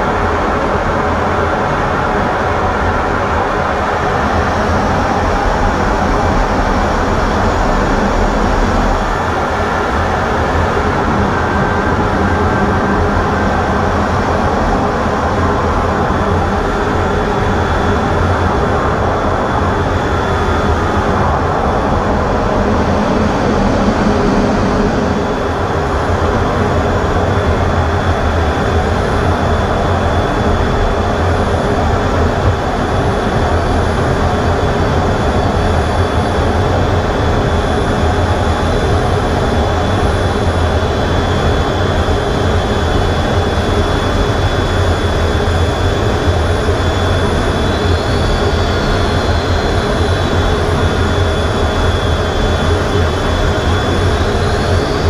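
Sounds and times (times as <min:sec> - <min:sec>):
jet engines and rushing air: 0:00.0 - 0:55.0.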